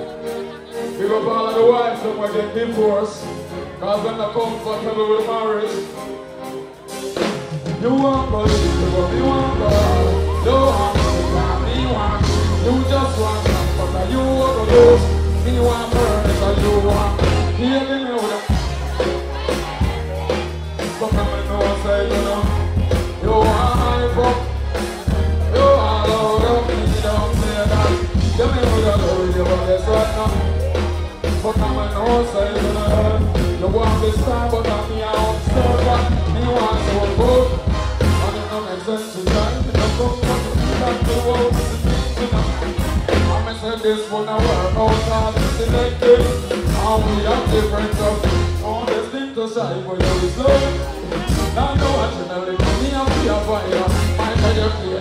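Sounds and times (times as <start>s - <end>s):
man singing into a microphone: 0.0s - 6.6s, 7.6s - 55.0s
live band music: 0.0s - 55.0s
heavy bass line: 7.7s - 55.0s.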